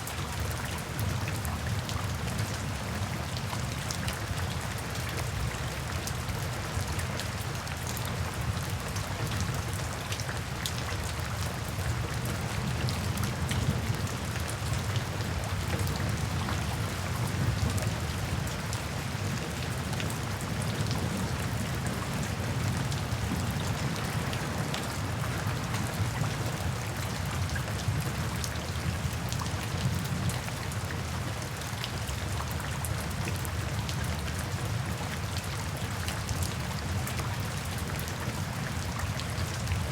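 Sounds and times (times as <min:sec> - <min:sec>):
heavy rain: 0:00.0 - 0:39.9
raindrops pattering close by: 0:00.0 - 0:39.9.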